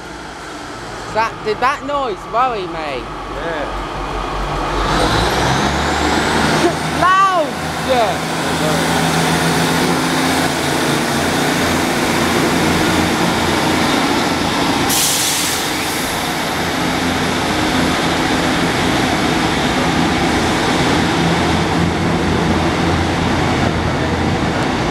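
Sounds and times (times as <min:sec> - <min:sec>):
train diesel engines droning: 0:00.0 - 0:24.9.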